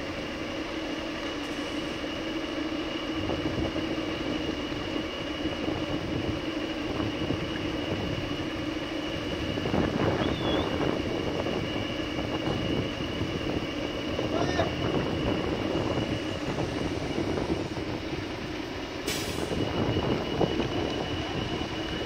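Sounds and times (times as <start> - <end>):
diesel engine drone: 0.0 - 22.0
high-pitched machine whine: 0.0 - 22.0.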